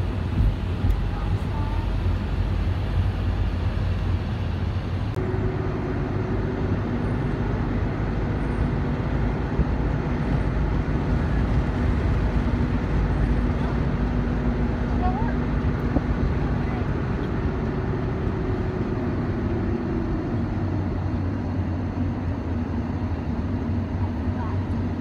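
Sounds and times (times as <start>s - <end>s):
car road rumble inside cabin: 0.0s - 25.0s
steady low hum: 0.0s - 25.0s.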